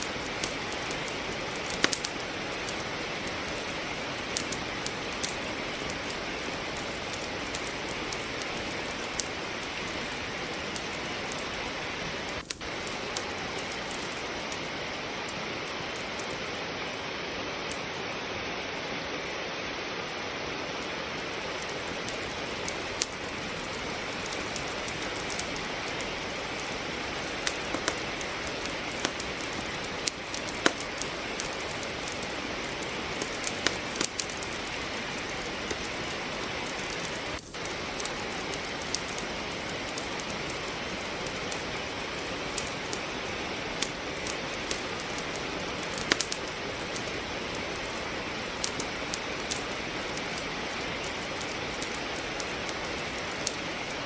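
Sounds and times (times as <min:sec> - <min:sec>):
firewood crackling: 0:00.0 - 0:54.0
rain falling: 0:00.0 - 0:54.0.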